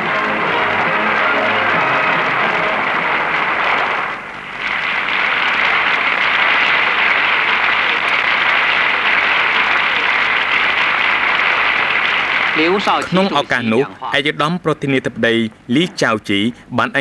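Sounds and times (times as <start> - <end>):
crowd applauding: 0.0 - 13.9.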